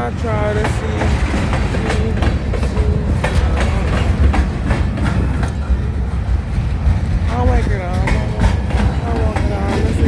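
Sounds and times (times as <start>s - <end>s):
heavy low train rumble: 0.0s - 10.0s
train wheels clicking over rail joints: 0.0s - 10.0s.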